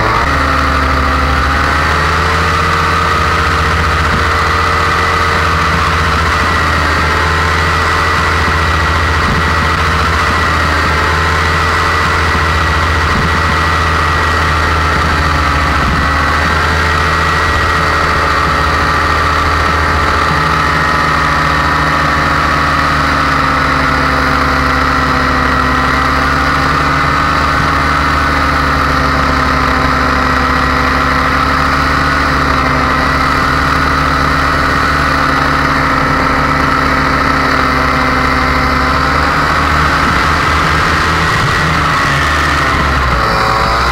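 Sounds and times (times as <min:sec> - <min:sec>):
paramotor engine and propeller: 0:00.0 - 0:43.9.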